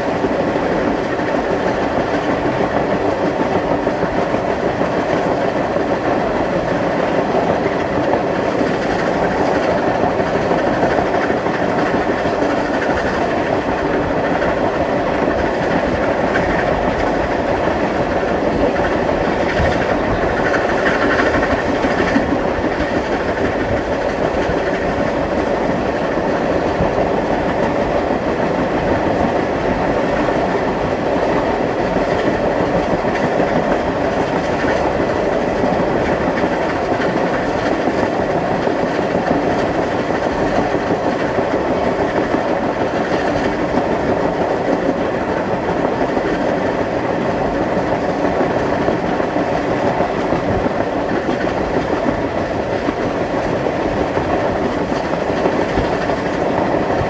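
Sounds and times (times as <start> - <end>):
train wheels clattering over rails: 0.0 - 57.0.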